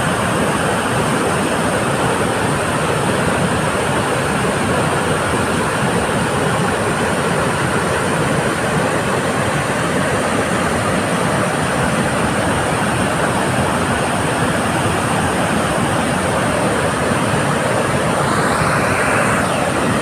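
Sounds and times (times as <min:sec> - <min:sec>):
water rushing through spillway: 0:00.0 - 0:20.0.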